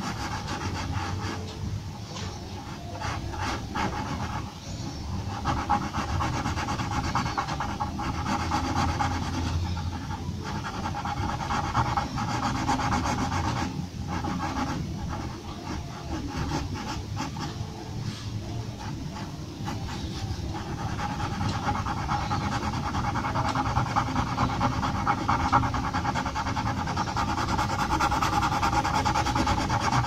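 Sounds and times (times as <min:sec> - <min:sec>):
pencil scratching on paper: 0:00.0 - 0:30.0.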